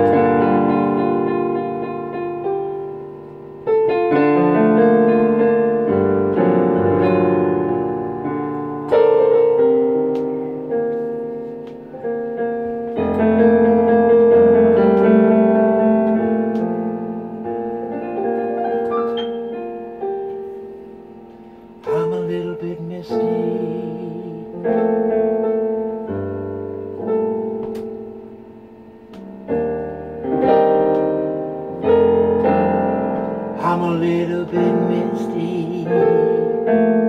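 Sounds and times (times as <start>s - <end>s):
digital piano chords: 0.0s - 37.0s.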